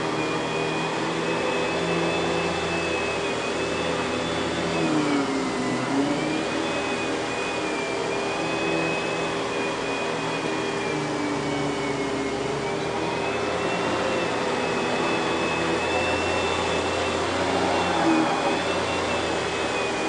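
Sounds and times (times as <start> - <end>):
power nozzle pushed over carpet: 0.0 - 20.0
vacuum cleaner running: 0.0 - 20.0.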